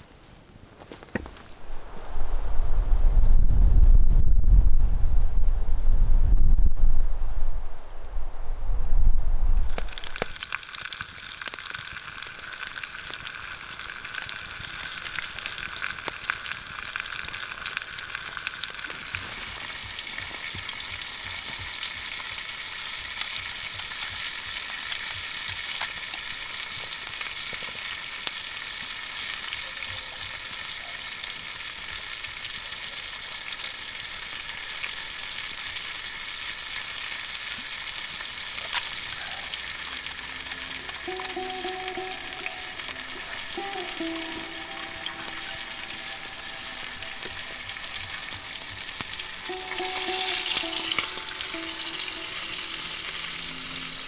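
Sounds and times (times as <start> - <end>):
fish sizzling in oil: 9.7 - 54.0.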